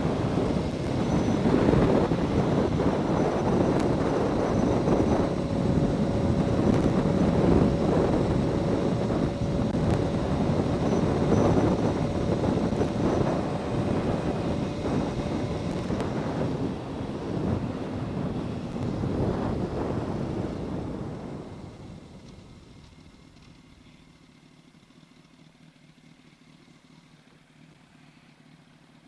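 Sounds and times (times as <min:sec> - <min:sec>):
wind rushing over microphone: 0:00.0 - 0:23.4
faint steady whine: 0:00.0 - 0:29.0
motorcycle engine running: 0:00.0 - 0:29.0.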